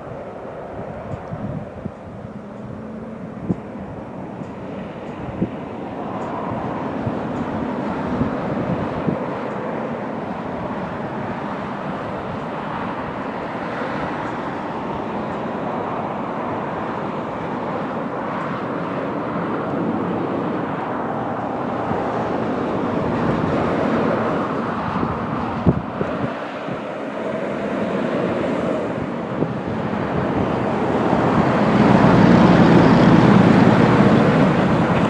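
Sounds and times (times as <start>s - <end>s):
truck engine rumbling: 0.0s - 18.2s, 19.4s - 35.0s.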